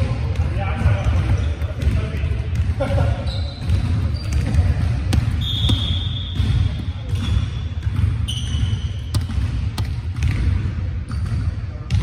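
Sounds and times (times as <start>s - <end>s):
volleyball bouncing on floor: 0.0s - 12.0s.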